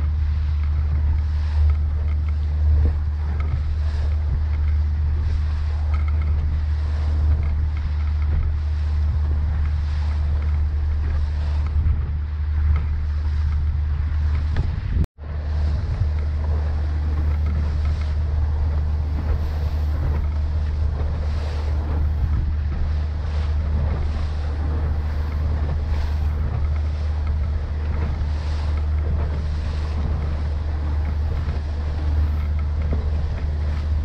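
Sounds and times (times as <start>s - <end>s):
outboard motor droning: 0.0s - 34.0s
water rushing past hull: 0.0s - 34.0s
wind buffeting microphone: 0.0s - 34.0s.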